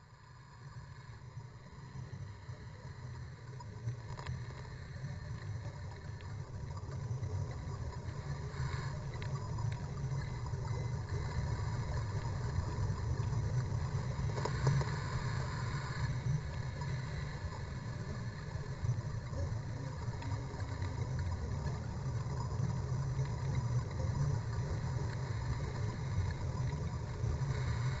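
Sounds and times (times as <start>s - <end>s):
faint crackle: 0.0s - 28.0s.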